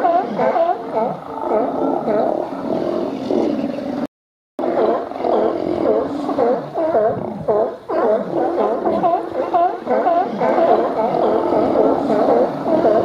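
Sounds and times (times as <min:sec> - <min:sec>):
sea lions barking: 0:00.0 - 0:03.8, 0:04.6 - 0:13.0.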